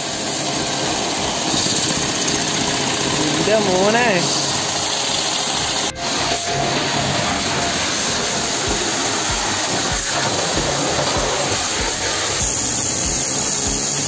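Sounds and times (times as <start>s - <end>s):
pressure washer jet hissing: 0.0s - 14.0s.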